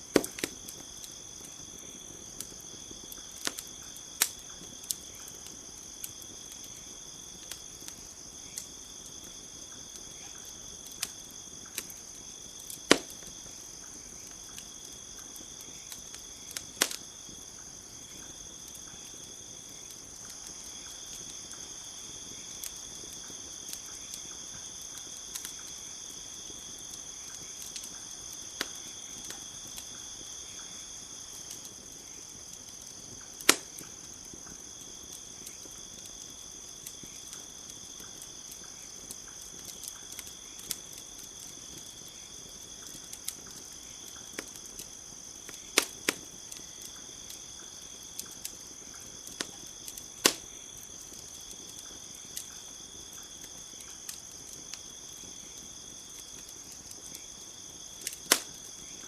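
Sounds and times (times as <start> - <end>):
sharp fire pops: 0.0 - 25.8, 31.4 - 41.9, 42.8 - 59.0
campfire crackling: 0.0 - 59.0
crickets chirring: 0.0 - 59.0.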